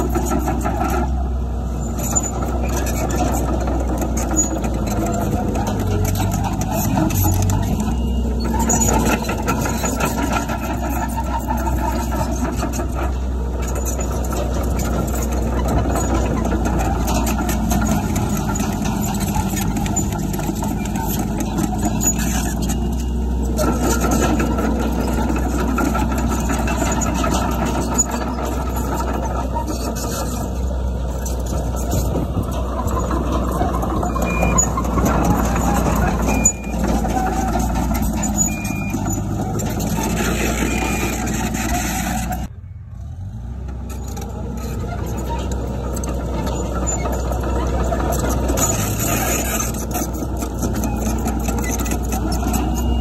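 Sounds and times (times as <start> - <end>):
metal clanks and rattles: 0.0 - 42.5, 43.7 - 53.0
bulldozer diesel engine running: 0.0 - 53.0.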